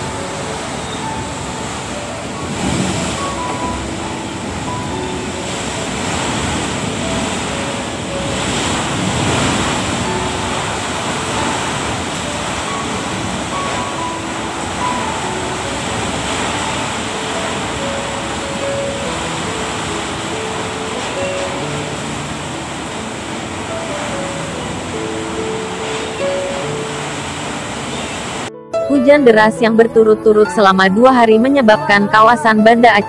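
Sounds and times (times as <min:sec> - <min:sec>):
heavy rain: 0:00.0 - 0:28.5
gusting wind: 0:00.0 - 0:28.6.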